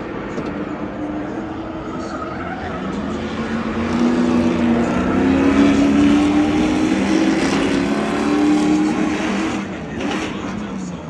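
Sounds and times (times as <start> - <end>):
racing truck engines droning: 0.0 - 11.0.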